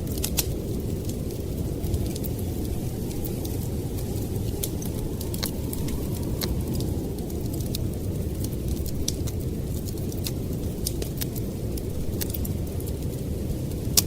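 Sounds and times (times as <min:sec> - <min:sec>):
blizzard wind rushing: 0:00.0 - 0:14.0
wood fire crackling: 0:00.0 - 0:14.0.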